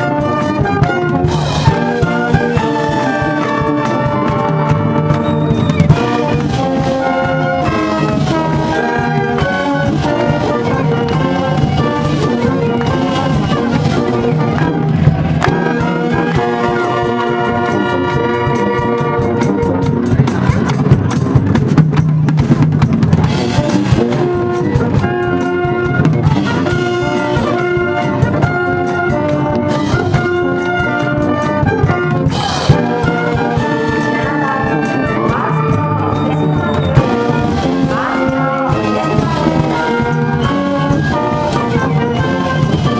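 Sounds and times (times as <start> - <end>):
brass band playing: 0.0 - 42.9
steady drum beat: 0.0 - 42.9.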